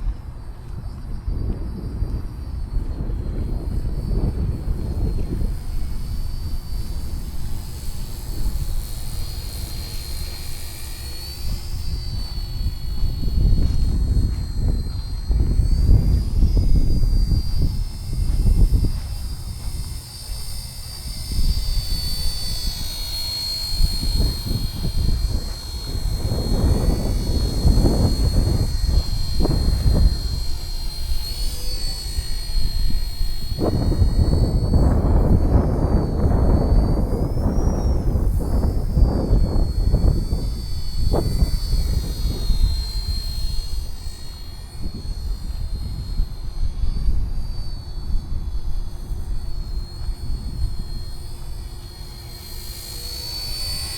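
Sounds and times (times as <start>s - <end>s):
model helicopter whine: 0.0s - 53.9s
wind rumbling on microphone: 0.0s - 53.9s.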